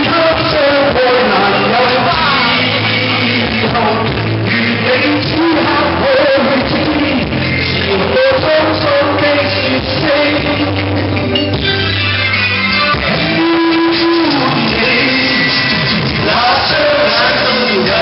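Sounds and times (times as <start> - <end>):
men singing into microphones: 0.0 - 11.3, 13.0 - 18.0
loud rock backing music: 0.0 - 18.0.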